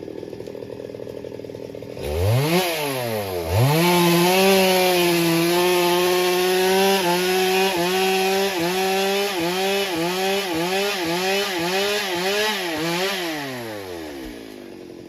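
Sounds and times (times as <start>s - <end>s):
chainsaw cutting at high speed: 0.0s - 15.0s.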